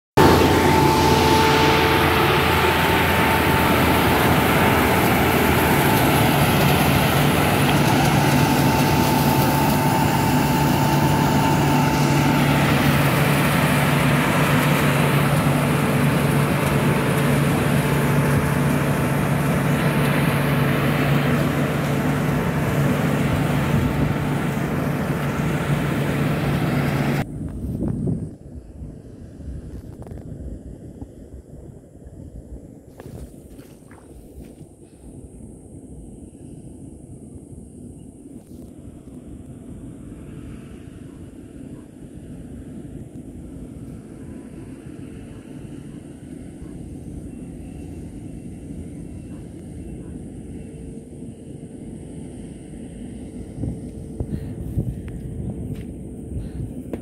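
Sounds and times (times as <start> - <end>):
combine harvester engine and threshing: 0.1 - 57.0.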